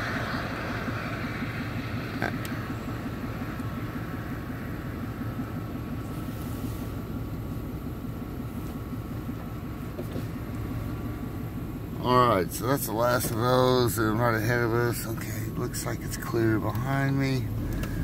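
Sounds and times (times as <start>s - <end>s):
car interior engine and tyre noise: 0.0s - 18.0s.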